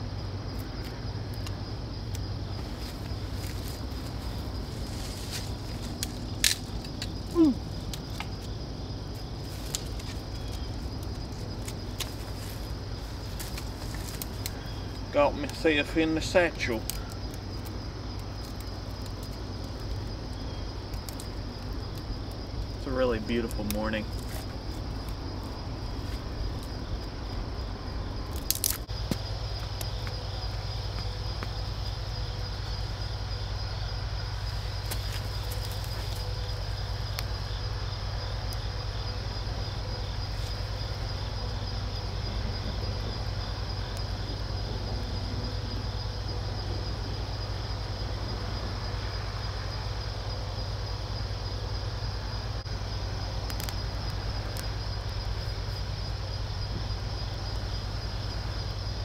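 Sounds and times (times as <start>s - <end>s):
insects chirping: 0.0s - 59.0s
low steady rumble: 0.0s - 59.0s.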